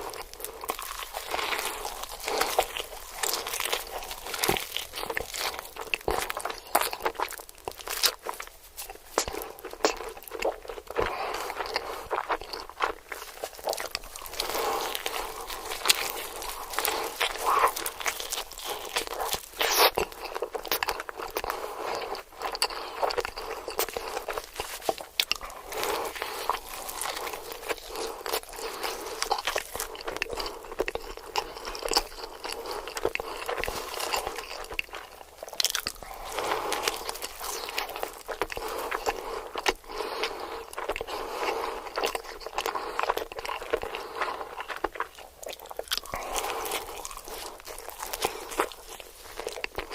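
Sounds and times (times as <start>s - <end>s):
person chewing and biting food: 0.0s - 49.9s.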